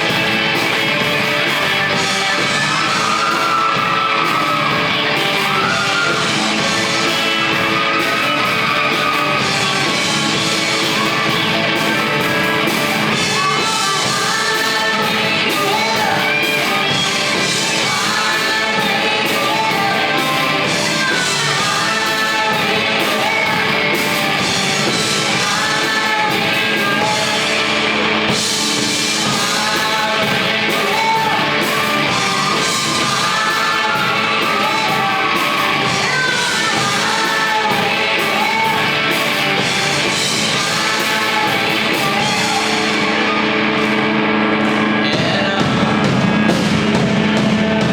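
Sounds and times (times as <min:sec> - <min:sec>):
person singing: 0:00.0 - 0:46.6
live band playing: 0:00.0 - 0:47.9.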